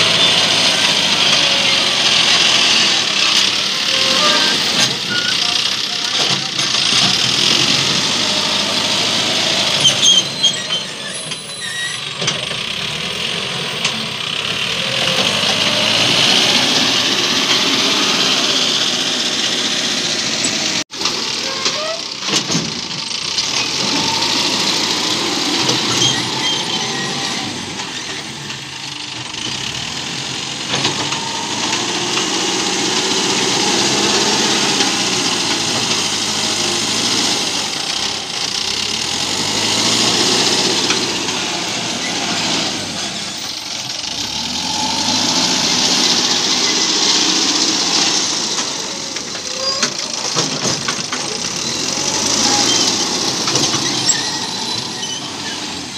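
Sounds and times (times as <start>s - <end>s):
backhoe diesel engine under load: 0.0s - 55.9s.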